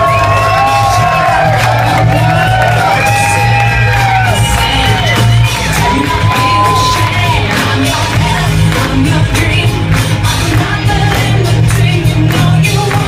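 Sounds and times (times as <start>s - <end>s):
pop song with singing: 0.0s - 13.0s.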